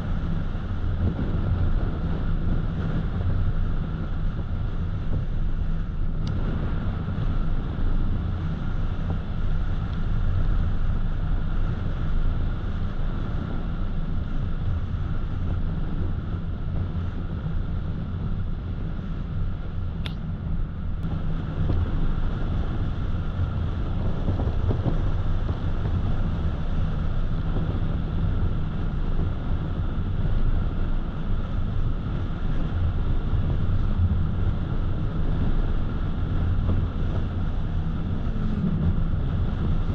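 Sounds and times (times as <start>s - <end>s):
car driving at road speed: 0.0s - 39.9s
wind noise: 0.0s - 39.9s.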